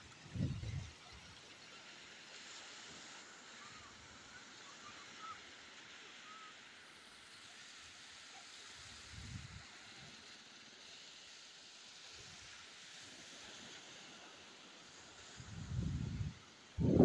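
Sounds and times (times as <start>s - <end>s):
small waves lapping on beach: 0.0s - 17.0s.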